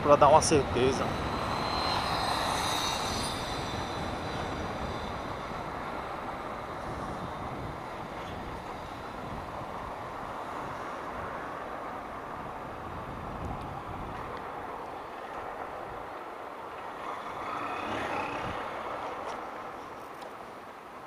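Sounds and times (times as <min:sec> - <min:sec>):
wind and road rush: 0:00.0 - 0:21.0
faint high whine: 0:00.1 - 0:12.2, 0:14.4 - 0:20.6.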